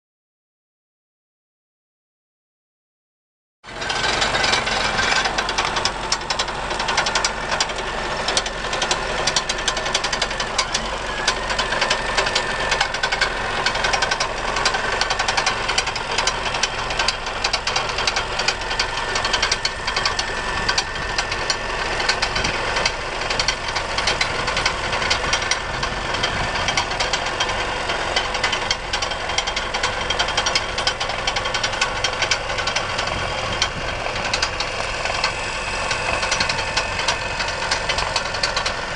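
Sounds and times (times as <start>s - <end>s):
tractor diesel engine running: 3.6s - 38.9s
dense rapid rattling: 3.7s - 38.9s.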